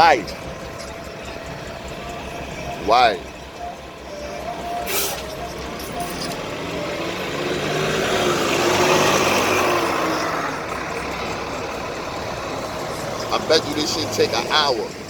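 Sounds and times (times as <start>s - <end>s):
heavy vehicle passing: 0.0s - 15.0s.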